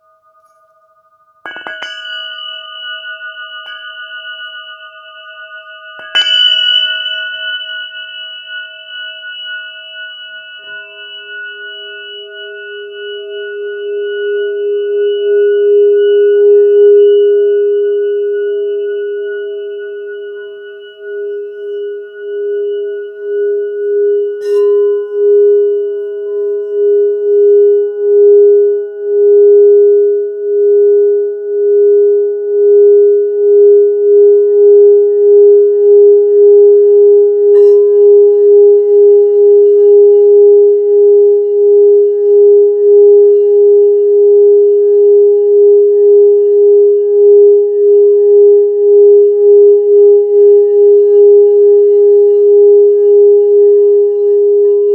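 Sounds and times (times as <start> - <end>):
crystal singing bowl tone: 0.0 - 54.9.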